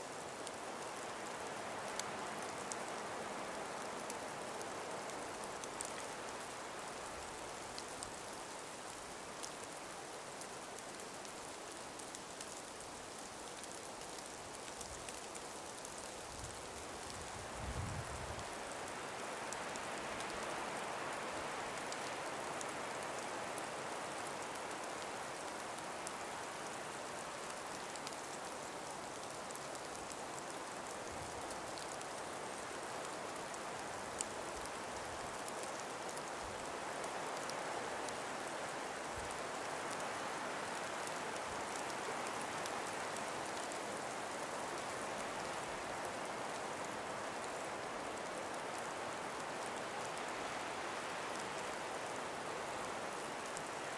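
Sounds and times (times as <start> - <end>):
breeze through forest: 0.0 - 53.9
faint ticks: 3.8 - 53.9.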